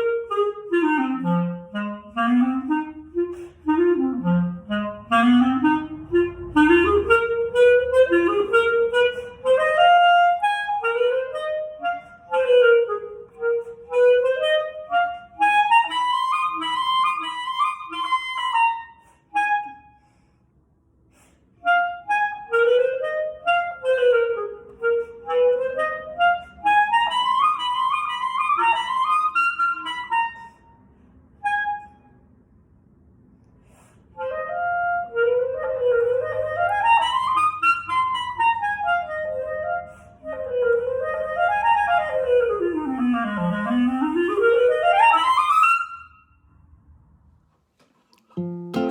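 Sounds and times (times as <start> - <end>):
solo clarinet blues: 0.0 - 20.2, 21.1 - 32.1, 33.7 - 46.2, 48.3 - 48.9.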